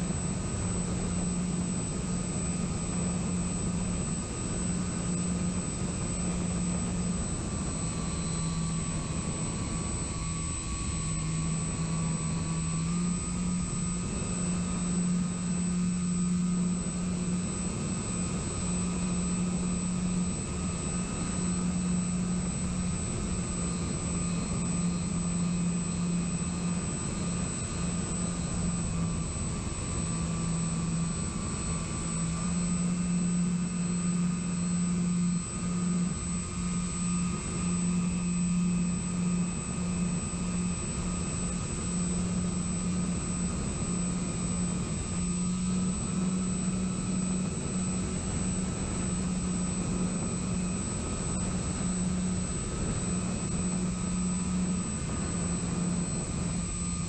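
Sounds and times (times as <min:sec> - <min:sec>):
electric model airplane motor: 0:00.0 - 0:57.0.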